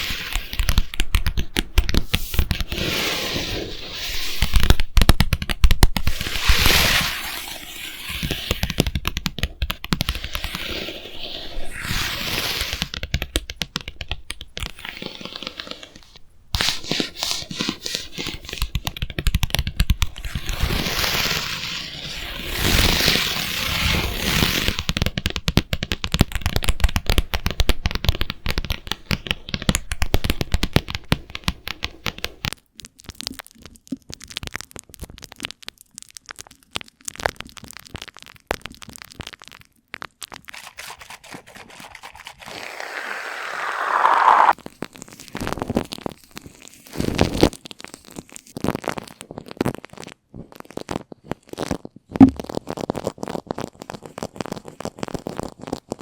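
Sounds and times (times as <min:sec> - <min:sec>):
crackling scratching clicks: 0:00.0 - 0:56.0.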